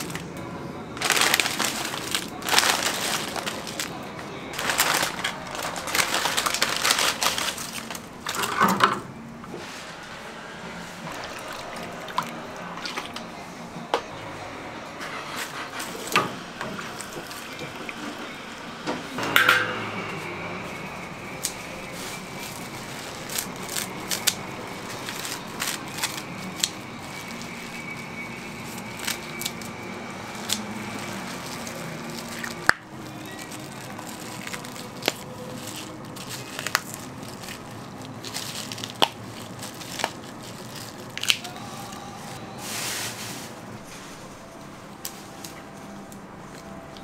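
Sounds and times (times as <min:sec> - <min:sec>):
utensils and dishes clinking: 0:00.0 - 0:09.2, 0:15.0 - 0:43.5
market background noise: 0:00.0 - 0:47.0.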